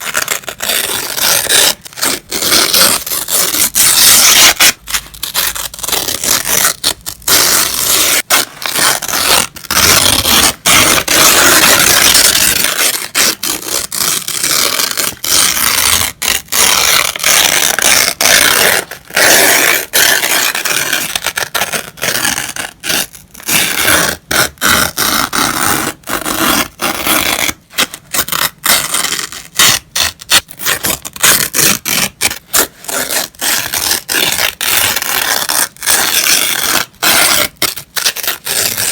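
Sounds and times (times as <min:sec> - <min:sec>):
paper being ripped: 0:00.0 - 0:38.9.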